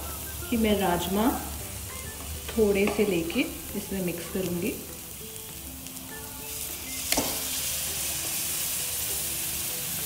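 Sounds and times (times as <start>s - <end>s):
masala sizzling in oil: 0.0s - 10.0s.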